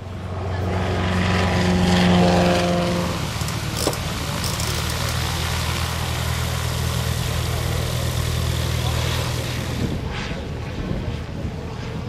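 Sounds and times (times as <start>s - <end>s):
propeller aircraft engine running: 0.0s - 12.0s.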